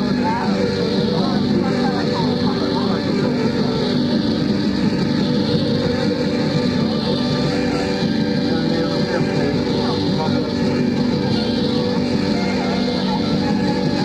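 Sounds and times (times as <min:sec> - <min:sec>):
heavy rock band: 0:00.0 - 0:14.0.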